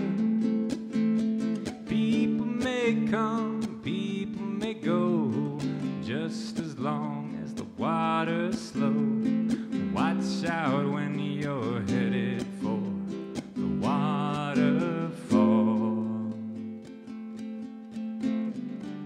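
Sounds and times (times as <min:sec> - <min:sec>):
man singing: 0:00.0 - 0:00.7, 0:01.5 - 0:17.0
ukulele strumming chords: 0:00.0 - 0:19.0.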